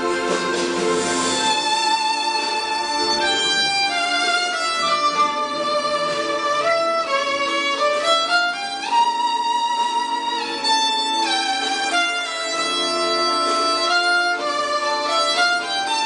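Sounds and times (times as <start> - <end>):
solo violin melody: 0.0 - 16.0.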